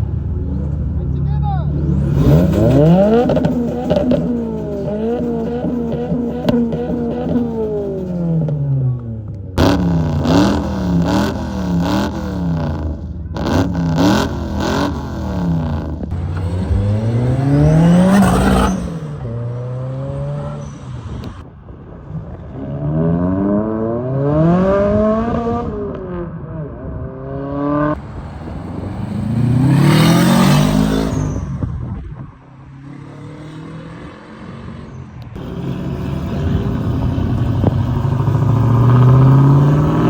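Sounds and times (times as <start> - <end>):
car engine revving: 1.7 - 21.4, 22.7 - 40.0.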